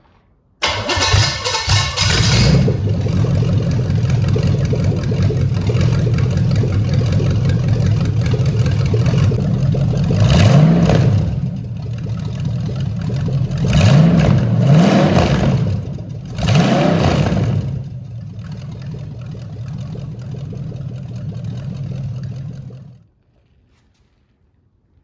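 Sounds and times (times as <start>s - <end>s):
car engine revving and idling: 0.6s - 23.0s.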